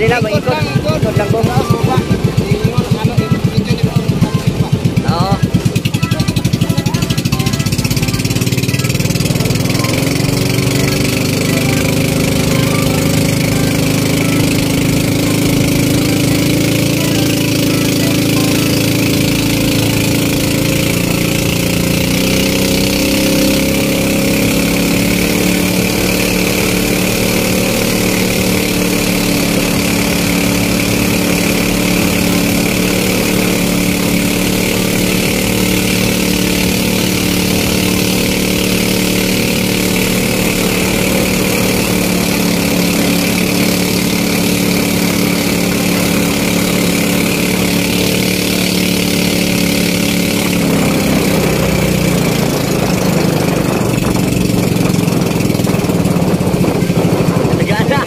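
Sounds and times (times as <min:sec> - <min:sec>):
boat engine running: 0:00.0 - 0:58.0
spray and rushing water: 0:00.0 - 0:58.0.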